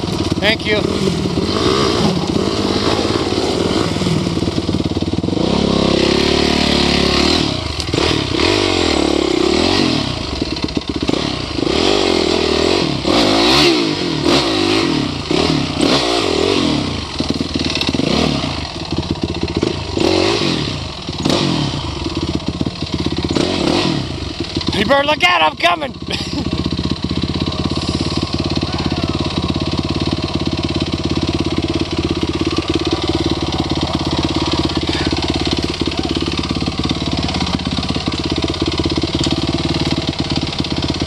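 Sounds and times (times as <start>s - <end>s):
dirt bike engines revving: 0.0s - 41.0s.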